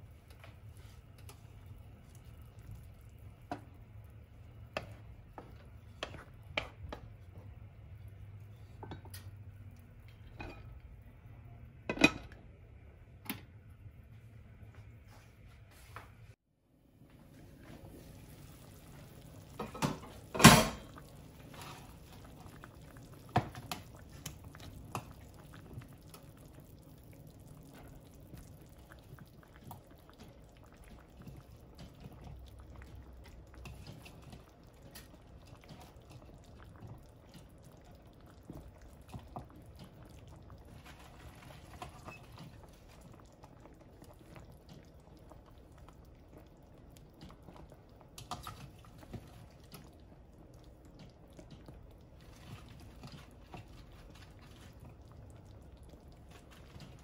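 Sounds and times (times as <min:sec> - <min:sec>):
broth bubbling at a simmer: 0:00.0 - 0:12.9, 0:17.4 - 0:57.0.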